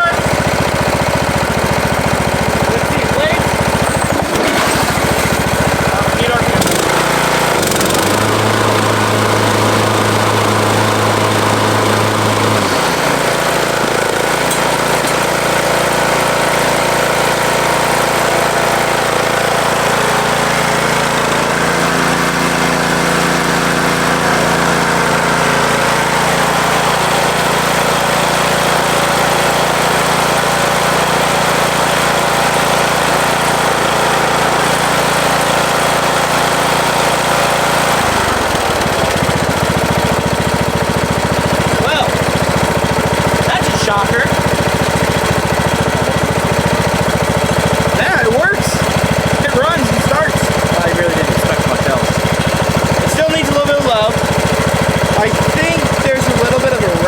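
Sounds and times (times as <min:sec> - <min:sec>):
riding mower engine running: 0:00.0 - 0:57.0.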